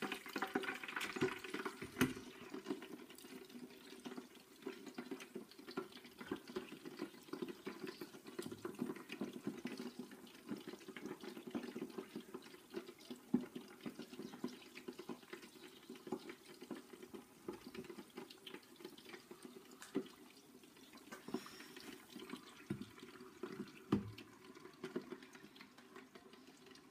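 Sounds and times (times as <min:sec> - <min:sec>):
hot fat bubbling and crackling: 0:00.0 - 0:26.9.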